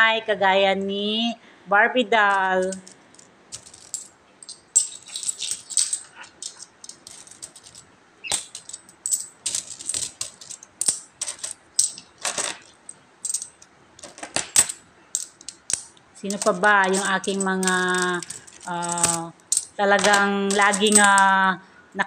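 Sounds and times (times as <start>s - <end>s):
coins clinking: 2.3s - 21.4s.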